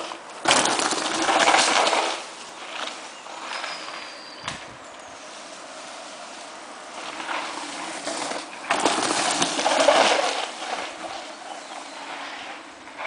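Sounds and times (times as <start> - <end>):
bike tyres rustling through leaves: 0.0 - 13.0.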